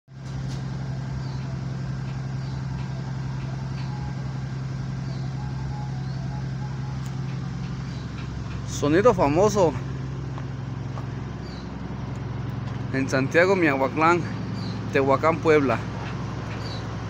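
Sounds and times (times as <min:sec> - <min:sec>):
truck diesel engine idling: 0:00.1 - 0:17.0.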